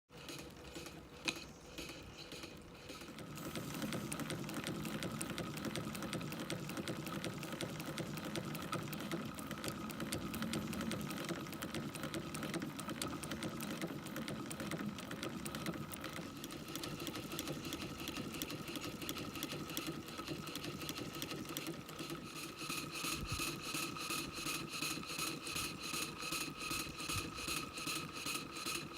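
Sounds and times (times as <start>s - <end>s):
steam engine rhythmic beat: 0.1s - 28.9s.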